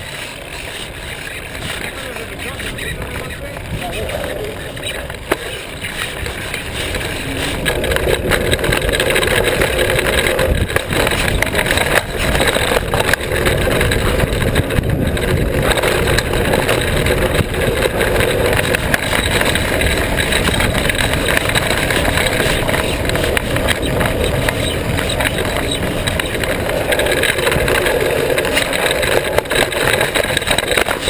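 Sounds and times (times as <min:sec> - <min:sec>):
bike knocks and rattles: 0:00.0 - 0:31.0
tyres rumbling over gravel: 0:00.0 - 0:31.0
wind buffeting microphone: 0:00.0 - 0:31.0.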